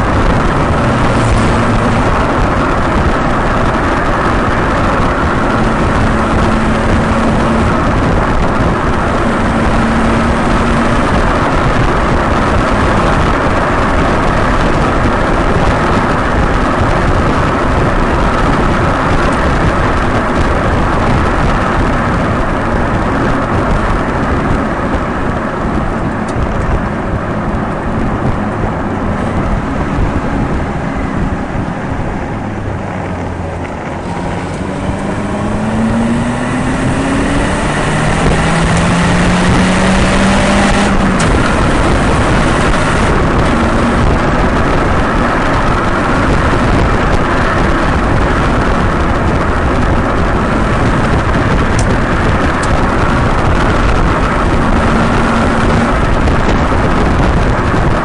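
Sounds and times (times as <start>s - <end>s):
car engine: 0.0s - 58.0s
tyre noise: 0.0s - 58.0s
wind rushing on microphone: 0.0s - 58.0s.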